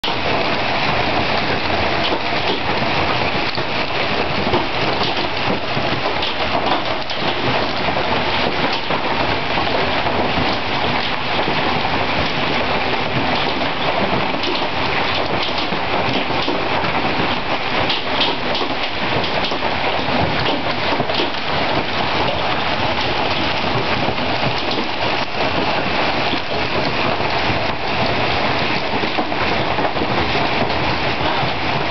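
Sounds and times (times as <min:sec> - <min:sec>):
hail pelting the ground: 0:00.0 - 0:31.9.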